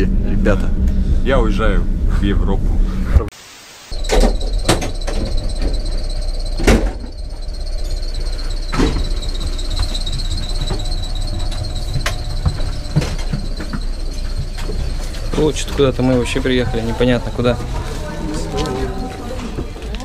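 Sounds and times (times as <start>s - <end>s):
high-pitched brake squeal: 3.9s - 20.0s
train carriage rumble: 3.9s - 20.0s.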